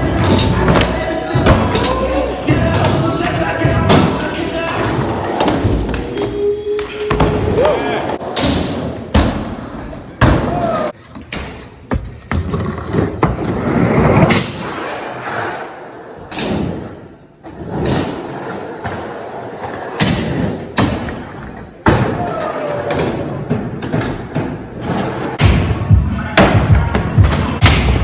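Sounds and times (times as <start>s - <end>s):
skateboard wheels rolling: 0.0s - 11.0s, 12.1s - 25.4s.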